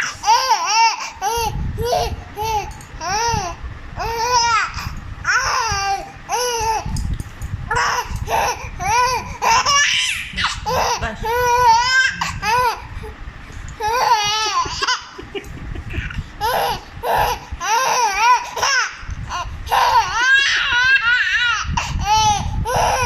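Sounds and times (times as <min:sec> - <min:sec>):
baby laughing: 0:00.0 - 0:06.8, 0:07.7 - 0:12.9, 0:13.8 - 0:23.0.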